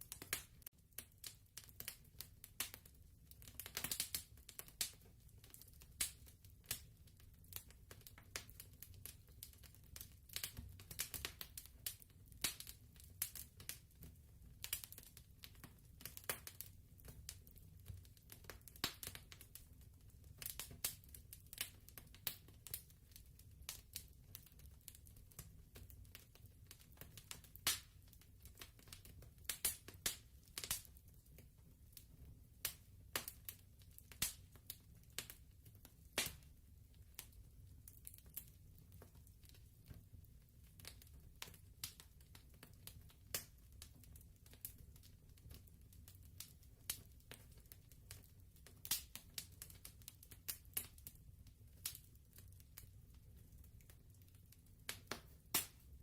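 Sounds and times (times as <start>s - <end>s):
fireplace crackling: 0.0s - 56.0s.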